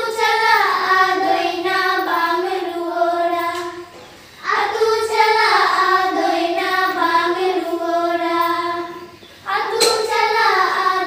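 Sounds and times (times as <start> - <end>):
girls singing together: 0.0 - 11.0.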